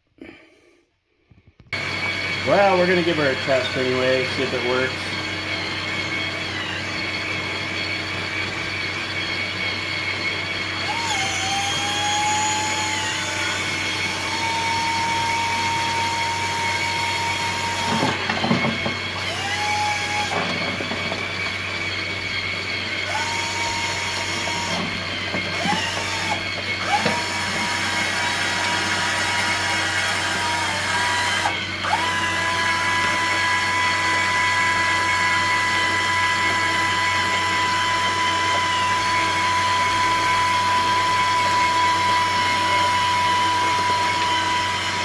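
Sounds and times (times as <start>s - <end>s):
small electric motors whining: 1.7s - 45.0s.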